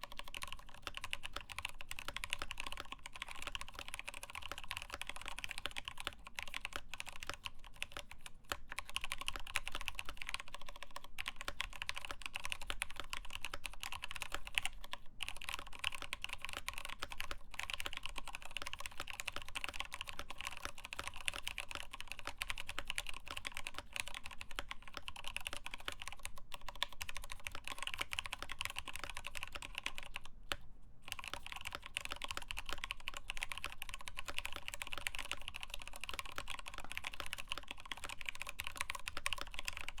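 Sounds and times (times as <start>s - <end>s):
typing on mechanical keyboard: 0.0s - 40.0s.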